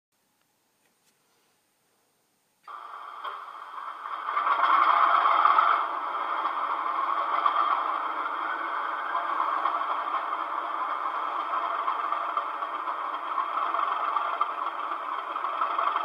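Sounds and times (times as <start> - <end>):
model diesel engine starting and idling: 2.7 - 16.0.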